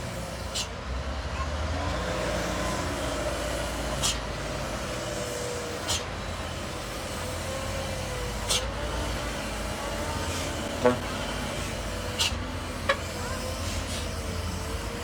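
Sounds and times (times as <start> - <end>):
heavy truck engine rumbling: 0.0 - 15.0.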